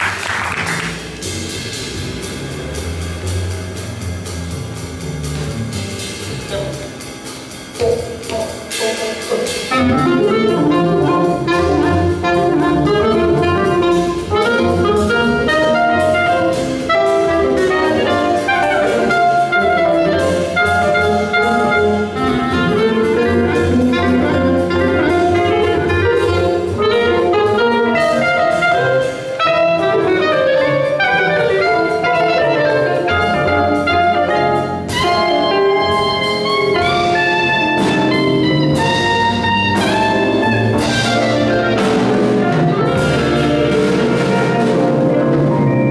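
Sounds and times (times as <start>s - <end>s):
drums playing alone: 0.0s - 45.9s
gypsy jazz band playing: 0.0s - 45.9s.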